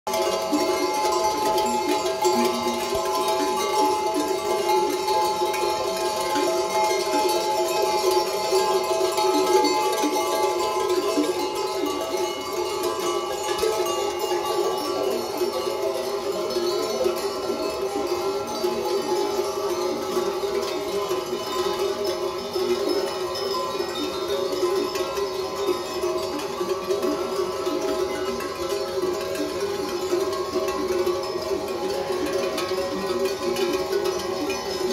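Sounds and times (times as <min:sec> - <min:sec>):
sheep bells ringing: 0:00.1 - 0:34.9.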